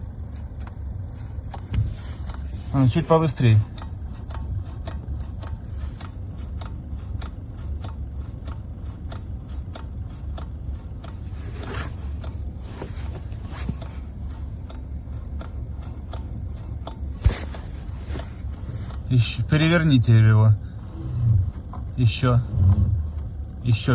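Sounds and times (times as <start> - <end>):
steady low hum: 0.0 - 23.9
steering clicks: 0.0 - 23.9.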